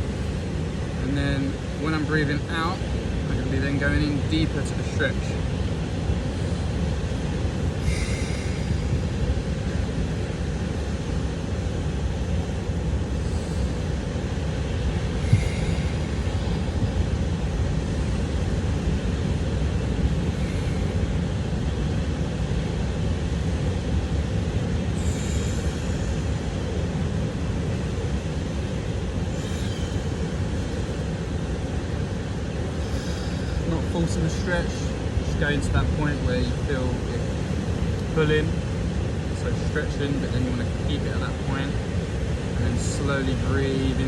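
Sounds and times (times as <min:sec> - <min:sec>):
ocean surf rumble: 0:00.0 - 0:44.0.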